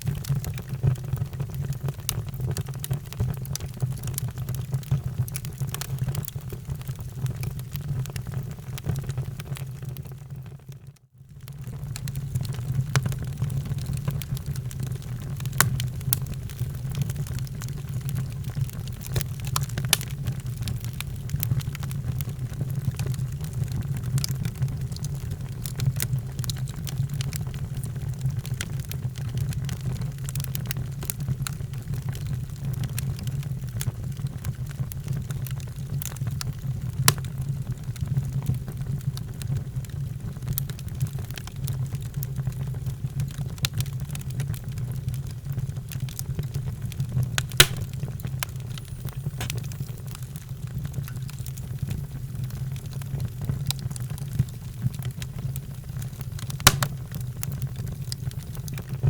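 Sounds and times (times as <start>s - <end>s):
fire crackling and popping: 0.0s - 59.0s
fire flames rumbling: 11.5s - 59.0s.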